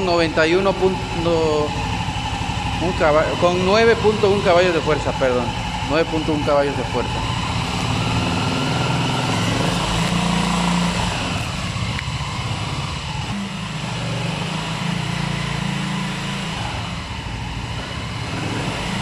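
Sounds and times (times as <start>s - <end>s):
buggy engine idling: 0.0s - 15.4s.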